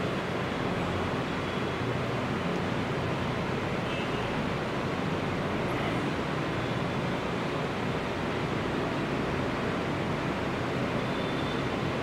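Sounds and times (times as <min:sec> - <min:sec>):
electric fans running: 0:00.0 - 0:12.0.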